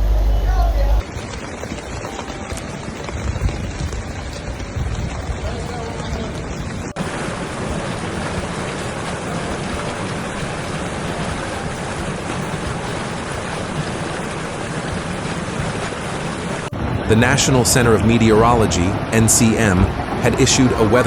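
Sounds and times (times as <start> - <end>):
water rushing: 0.0 - 21.0
wind buffeting microphone: 0.0 - 21.0.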